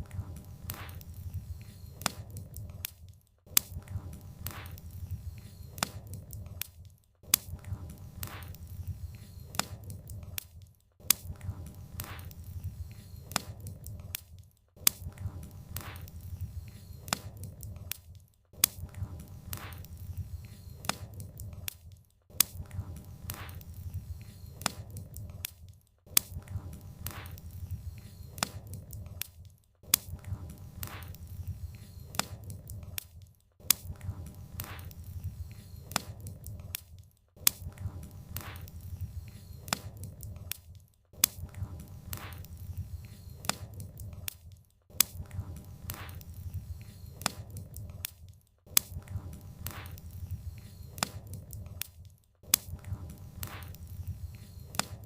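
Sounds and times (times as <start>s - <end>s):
low rumble of flames: 0.0s - 10.4s, 11.1s - 14.2s, 14.9s - 21.8s, 22.4s - 29.4s, 30.0s - 33.0s, 33.7s - 36.8s, 37.5s - 40.6s, 41.2s - 44.4s, 45.0s - 48.1s, 48.8s - 51.9s, 52.5s - 55.0s
firewood crackling and popping: 0.0s - 55.0s.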